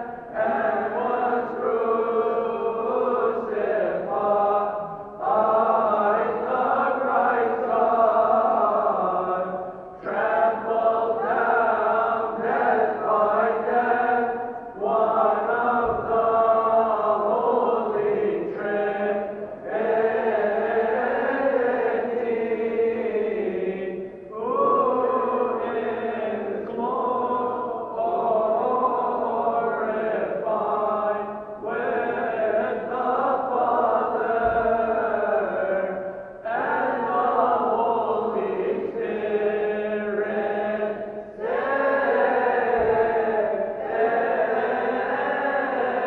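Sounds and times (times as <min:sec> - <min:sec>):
group chanting a hymn: 0:00.0 - 0:46.0.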